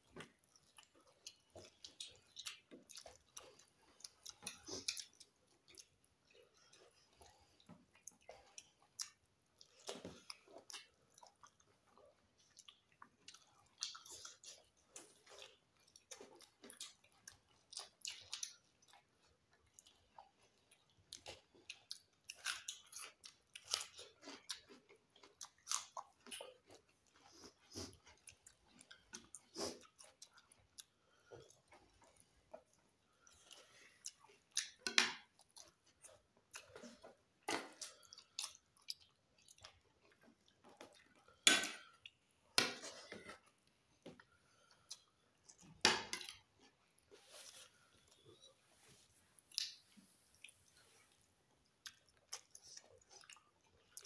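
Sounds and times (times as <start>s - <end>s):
wet chewing and mouth smacks: 0.0s - 48.6s, 49.3s - 54.0s.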